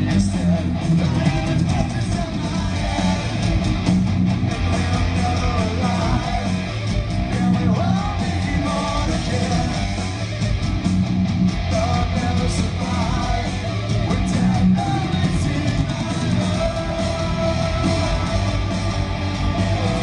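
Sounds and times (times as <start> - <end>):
lead vocal singing: 0.0 - 3.6, 4.5 - 10.6, 11.6 - 20.0
heavy metal band playing: 0.0 - 20.0.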